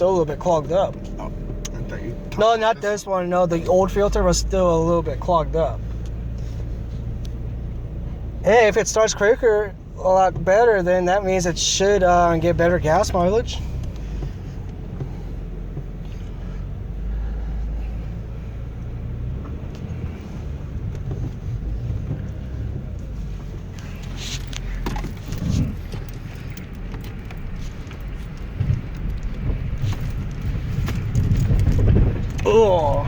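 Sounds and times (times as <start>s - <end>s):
engine and road rumble: 0.0s - 33.0s.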